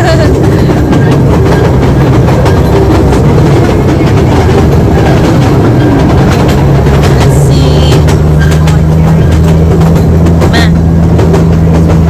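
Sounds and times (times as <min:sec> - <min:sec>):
train rumbling: 0:00.0 - 0:12.0
wheel clatter clicks: 0:00.0 - 0:12.0.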